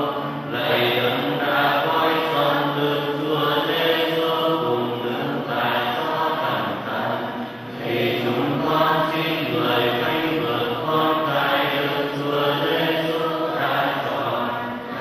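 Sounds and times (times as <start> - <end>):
voices singing a slow hymn: 0.0 - 15.0.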